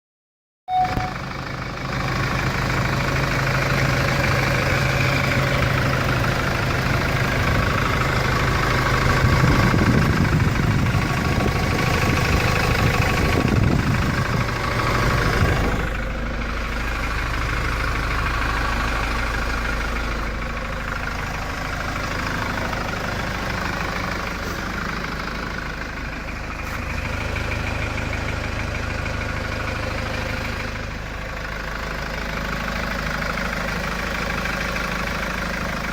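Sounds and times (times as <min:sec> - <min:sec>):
diesel engine idling and revving: 0:00.7 - 0:35.9.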